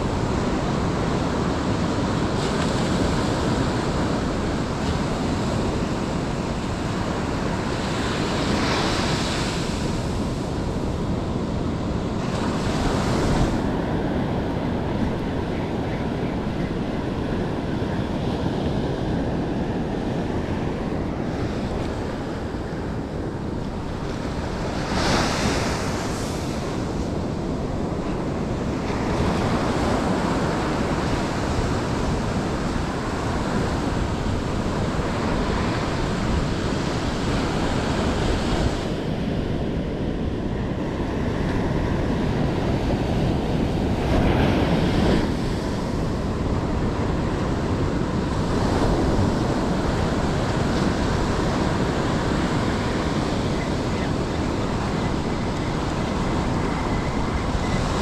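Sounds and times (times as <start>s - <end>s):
ocean surf breaking on sand: 0.0s - 58.0s
wind buffeting microphone: 0.0s - 58.0s.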